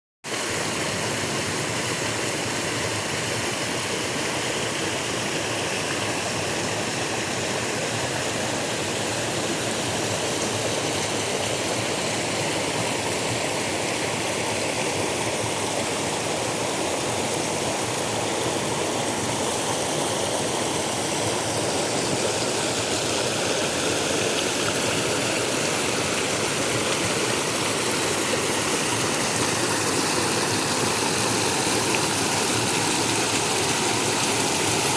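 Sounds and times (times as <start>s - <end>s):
river water over rocks: 0.3s - 34.9s.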